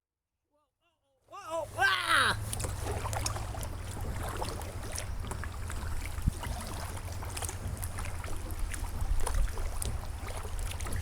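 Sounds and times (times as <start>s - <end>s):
river rumble: 1.3s - 11.0s
water splashing against kayak hull: 1.3s - 11.0s.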